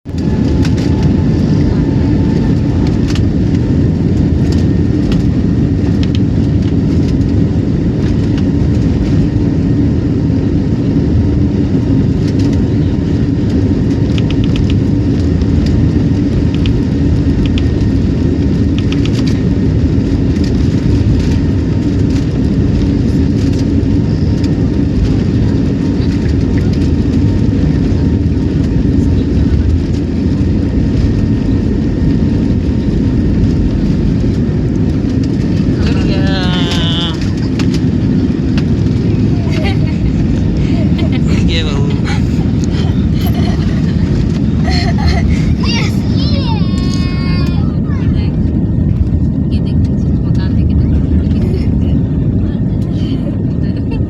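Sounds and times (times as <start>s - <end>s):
airliner engines rumbling: 0.0s - 54.0s.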